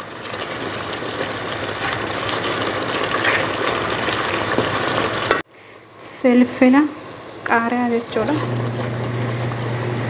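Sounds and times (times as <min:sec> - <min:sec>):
sauce sizzling and bubbling: 0:00.0 - 0:10.0.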